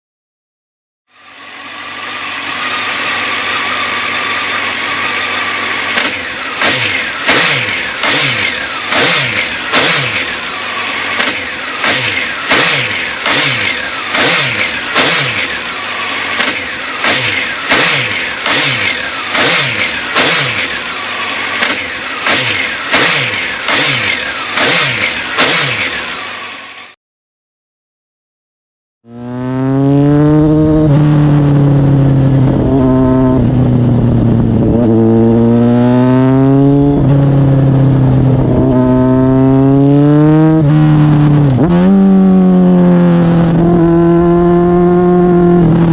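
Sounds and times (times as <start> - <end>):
motorcycle engine idling and revving: 1.1 - 27.0, 29.0 - 45.9.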